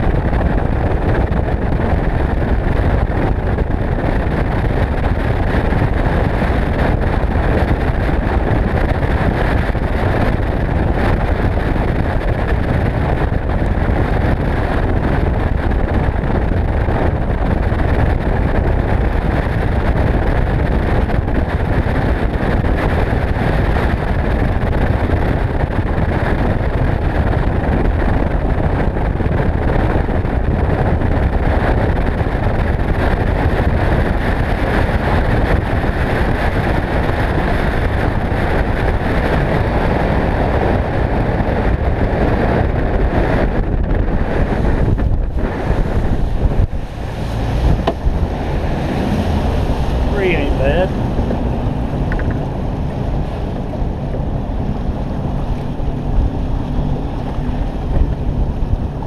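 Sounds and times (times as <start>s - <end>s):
outboard motor drone: 0.0s - 59.0s
wind on microphone: 0.0s - 59.0s.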